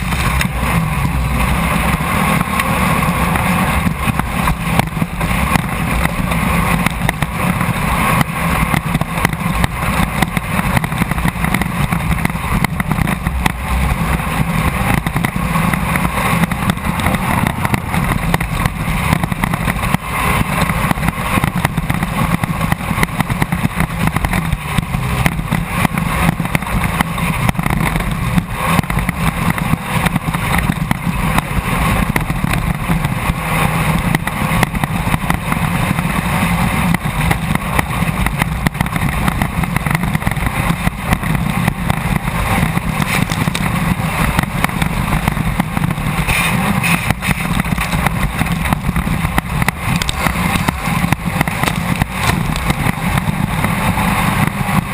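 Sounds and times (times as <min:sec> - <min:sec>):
race car engine running hard: 0:00.0 - 0:54.9.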